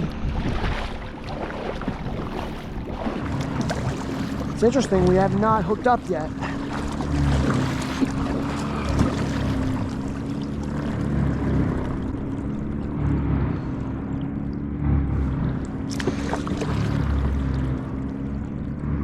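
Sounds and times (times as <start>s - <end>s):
kayak drive humming: 0.0s - 19.0s.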